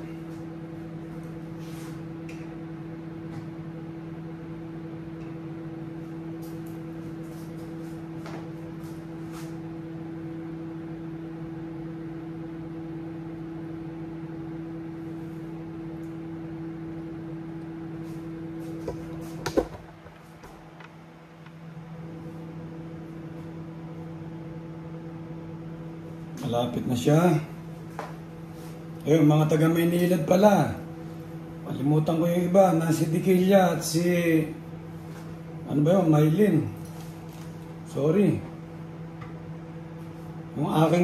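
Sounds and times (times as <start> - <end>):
microwave oven humming: 0.0 - 41.0.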